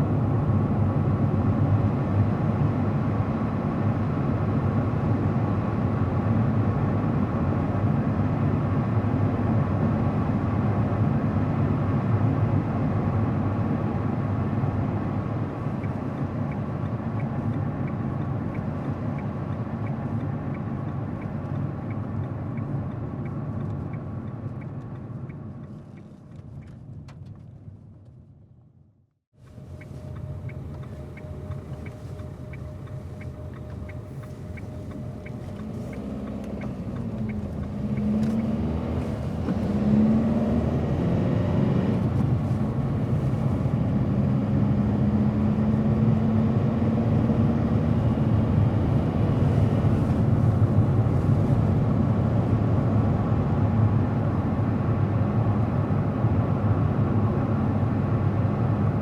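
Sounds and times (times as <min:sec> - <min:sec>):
car driving on road: 0:00.0 - 0:59.0.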